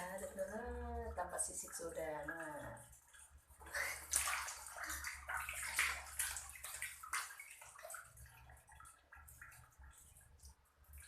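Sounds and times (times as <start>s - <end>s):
water splashing in a basin: 0.0s - 11.0s.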